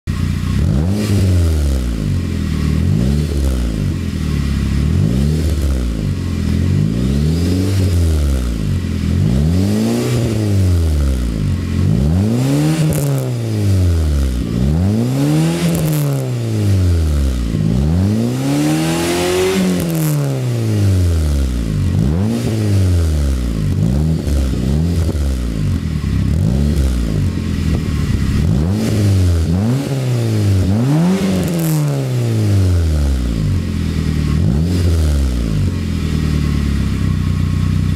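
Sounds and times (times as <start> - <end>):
car engine revving: 0.0 - 37.9
exhaust crackles: 0.1 - 37.9.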